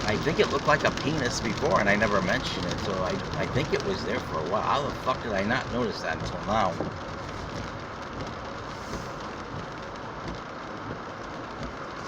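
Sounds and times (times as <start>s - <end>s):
rain on car: 0.0s - 12.0s
tyres on wet road: 0.0s - 12.0s.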